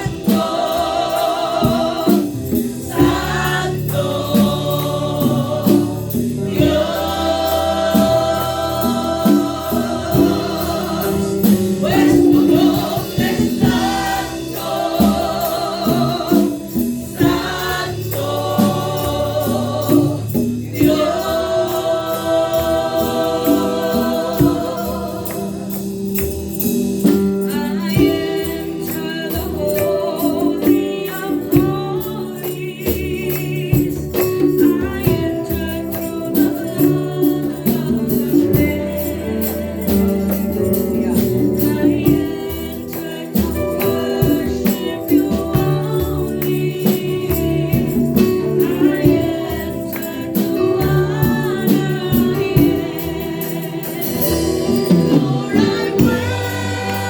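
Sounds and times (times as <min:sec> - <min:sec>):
band playing: 0:00.0 - 0:31.9, 0:35.1 - 0:57.0
steady percussion beat: 0:00.0 - 0:57.0
voices singing: 0:00.0 - 0:57.0.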